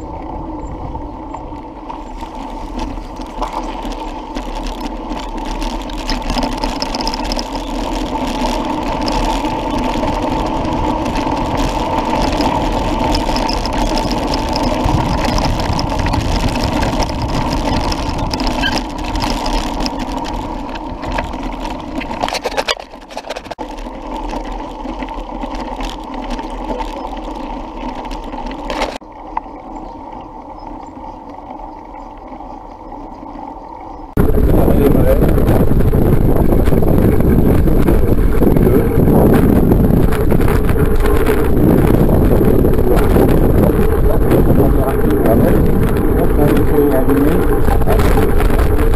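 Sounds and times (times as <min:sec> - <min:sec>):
bike rattling: 0:00.0 - 0:48.9
tyres rolling over dirt: 0:00.0 - 0:48.9.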